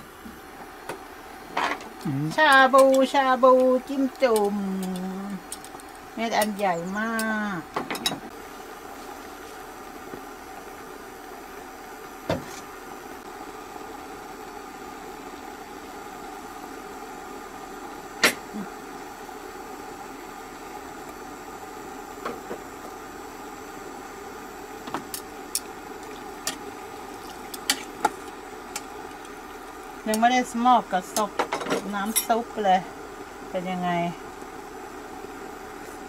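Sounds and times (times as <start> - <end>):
mechanical hum: 0.0 - 36.0.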